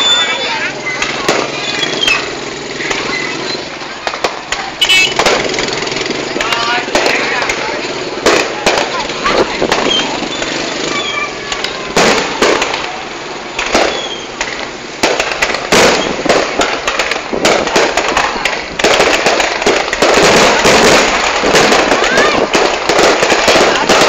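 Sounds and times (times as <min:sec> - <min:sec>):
fireworks bursting: 0:00.0 - 0:24.0
fireworks crackling: 0:00.0 - 0:24.0.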